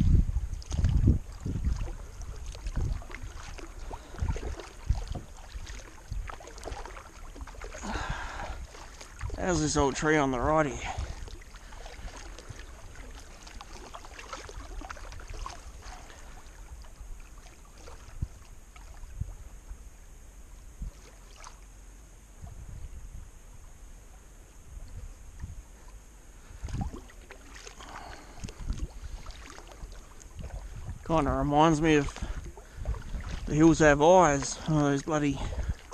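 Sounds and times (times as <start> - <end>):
paddle splashing in water: 0.0 - 19.8, 20.8 - 23.0, 23.6 - 35.9.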